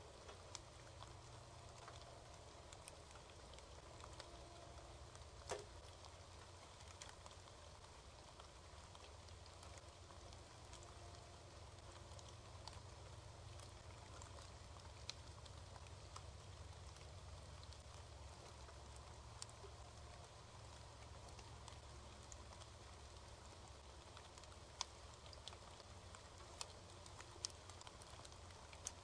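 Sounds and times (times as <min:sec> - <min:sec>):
faint ticks: 0:00.0 - 0:29.0
low hum and hiss: 0:00.0 - 0:29.0.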